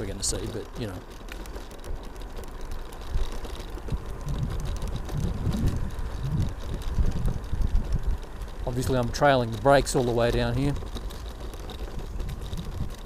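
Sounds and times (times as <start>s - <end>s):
scooter tyre and road rumble: 0.0s - 13.0s
wind buffeting microphone: 1.8s - 13.0s.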